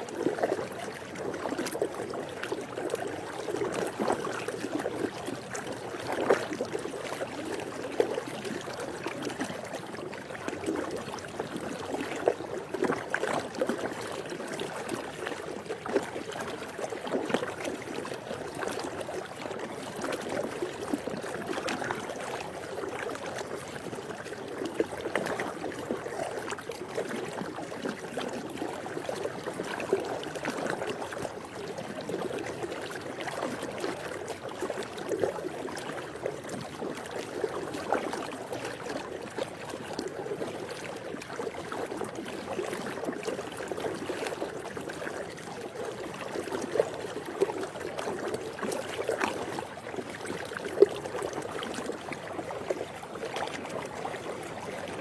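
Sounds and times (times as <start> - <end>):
pool water moving: 0.0 - 55.0
small water splashes: 0.0 - 55.0.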